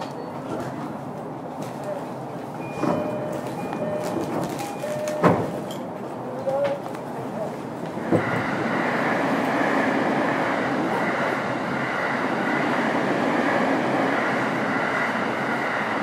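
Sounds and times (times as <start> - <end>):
electric train rolling on rails: 0.0 - 16.0.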